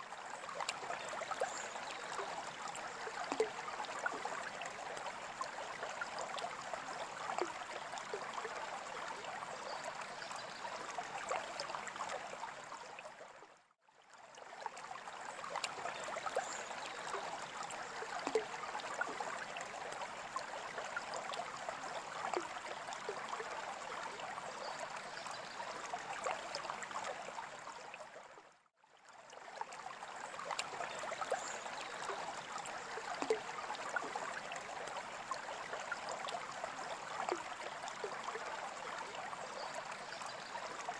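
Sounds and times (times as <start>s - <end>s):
trickling gurgling water: 0.0s - 40.9s.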